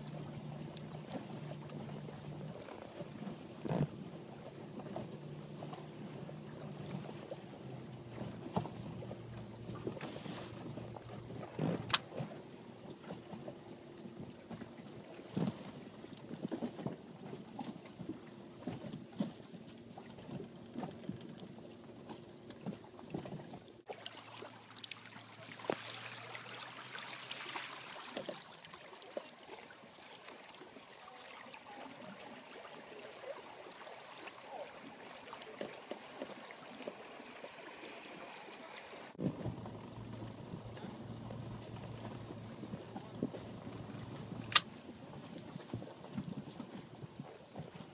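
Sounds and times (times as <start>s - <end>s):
water trickling along hull: 0.0s - 47.9s.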